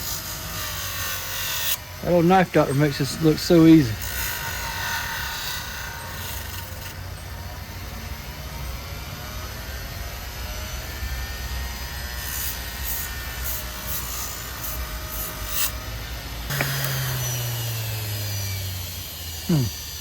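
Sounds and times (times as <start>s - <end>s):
motor wheel humming: 0.0s - 20.0s.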